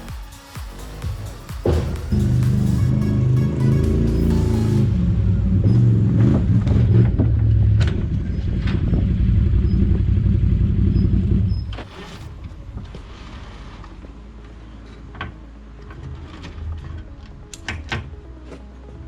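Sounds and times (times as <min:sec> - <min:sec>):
vehicle engine running: 0:00.8 - 0:17.5.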